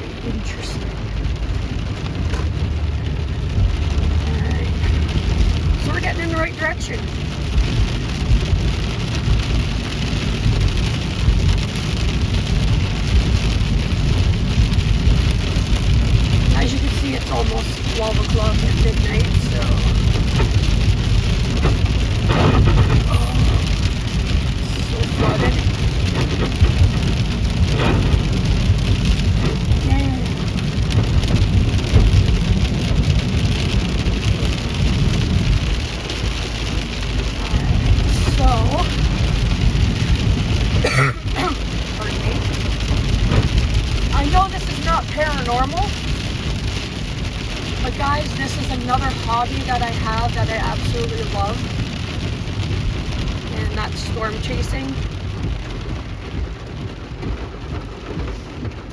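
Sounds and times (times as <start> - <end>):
car engine and road noise: 0.0 - 58.9
heavy rain on a car: 0.0 - 58.9
low rumble: 0.0 - 58.9.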